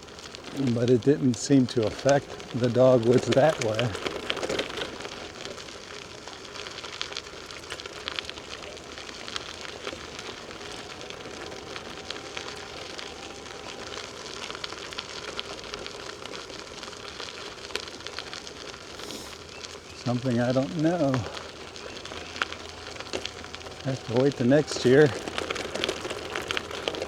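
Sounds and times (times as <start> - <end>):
bicycle tyres rolling on trail: 0.0 - 27.0.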